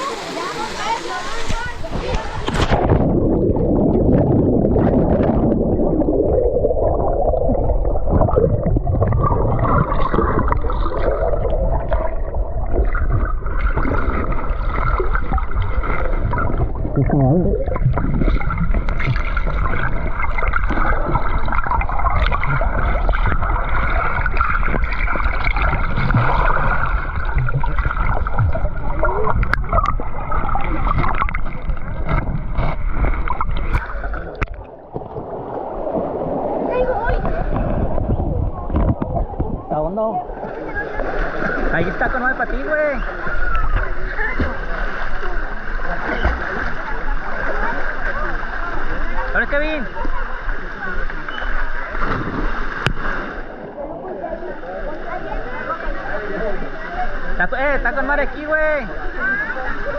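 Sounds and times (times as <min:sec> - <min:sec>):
stream water rushing and gurgling: 0:00.0 - 0:59.9.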